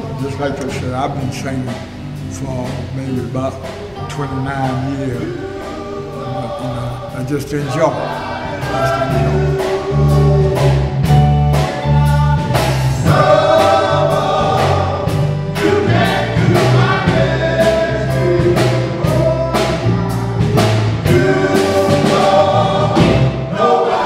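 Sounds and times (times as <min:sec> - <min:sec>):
band playing: 0:00.0 - 0:24.0
men's gospel group singing: 0:00.0 - 0:24.0.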